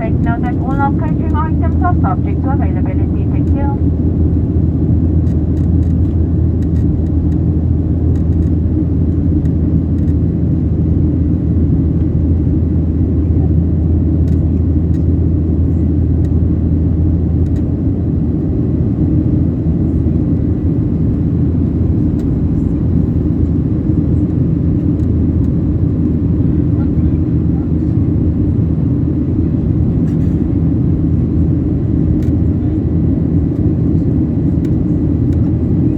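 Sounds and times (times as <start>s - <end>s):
airplane cabin drone: 0.0s - 35.9s.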